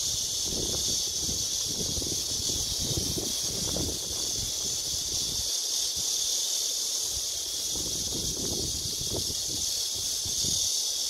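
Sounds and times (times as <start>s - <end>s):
wind gusting across microphone: 0.0s - 6.2s, 7.1s - 10.7s
high-pitched hiss: 0.0s - 11.0s.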